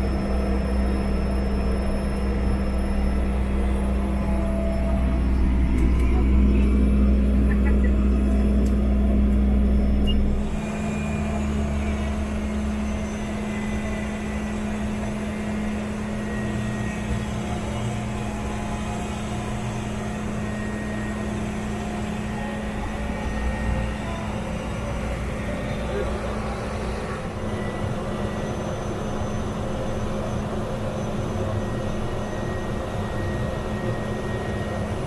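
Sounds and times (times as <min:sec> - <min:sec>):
turboprop engine cabin hum: 0:00.0 - 0:35.0.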